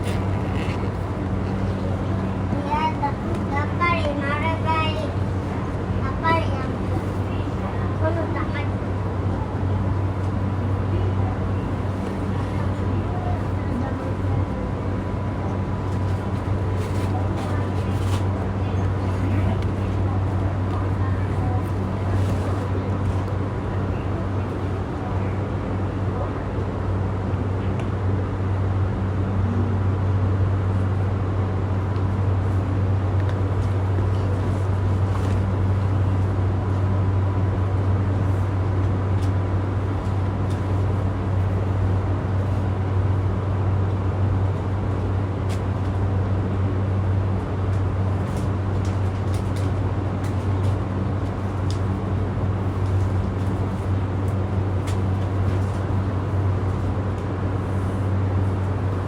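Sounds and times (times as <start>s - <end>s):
train air conditioning hum: 0.0s - 59.0s.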